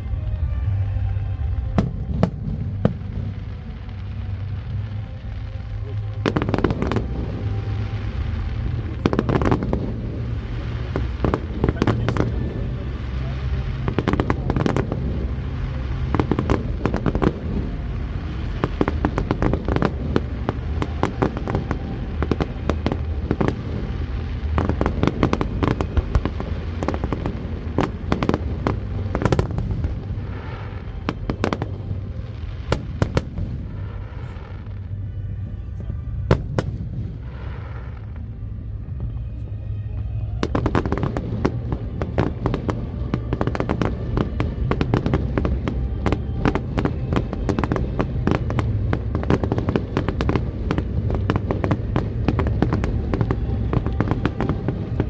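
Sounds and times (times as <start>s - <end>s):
fireworks bursting with bangs and crackle: 0.0s - 55.0s.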